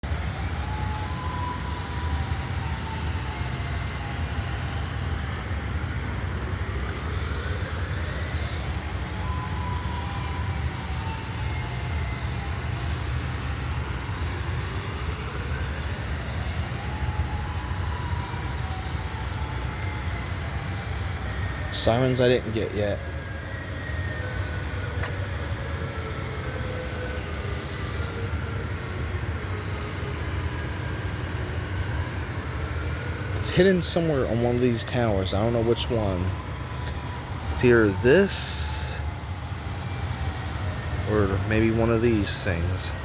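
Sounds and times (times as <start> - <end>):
distant warning siren wailing: 0.0 - 43.0.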